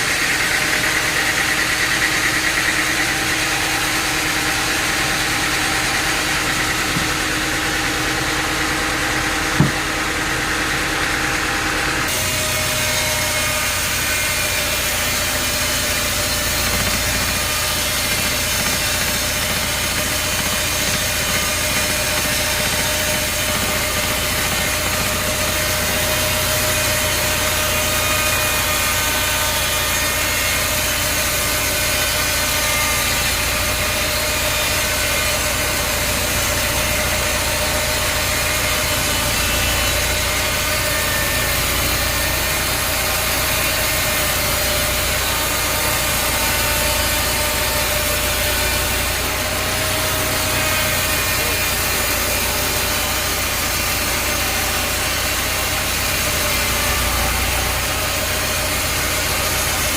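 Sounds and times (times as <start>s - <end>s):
engine-driven saw humming: 0.0s - 59.9s.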